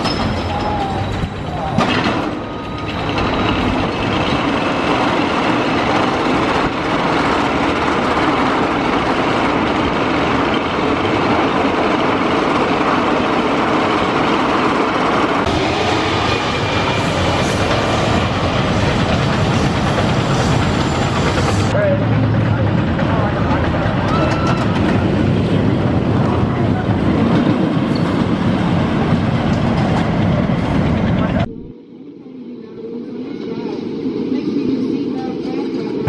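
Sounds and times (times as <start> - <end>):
roller coaster rumbling on track: 0.0 - 31.8.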